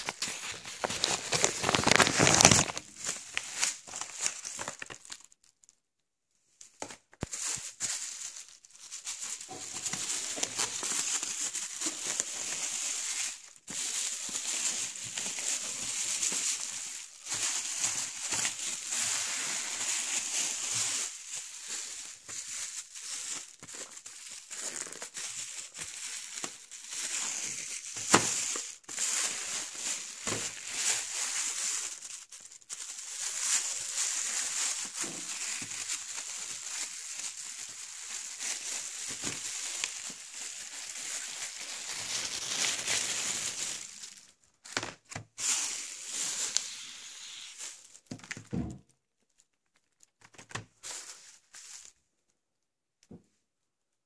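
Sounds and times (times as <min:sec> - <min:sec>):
plastic bag crinkling: 0:00.0 - 0:05.9, 0:06.6 - 0:52.2.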